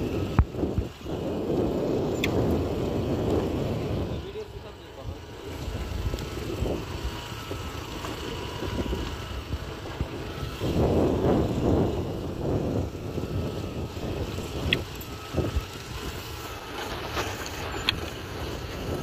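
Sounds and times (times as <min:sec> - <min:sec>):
motorbike engine running: 0:00.0 - 0:19.0
wind buffeting the microphone: 0:00.0 - 0:19.0.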